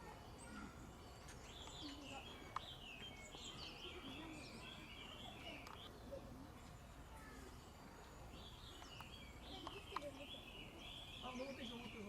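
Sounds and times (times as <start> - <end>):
outdoor background noise: 0.0 - 12.0
songbird twittering: 0.0 - 12.0.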